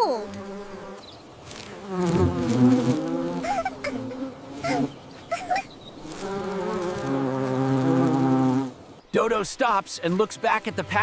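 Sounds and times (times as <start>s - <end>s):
bees buzzing: 0.0s - 9.0s.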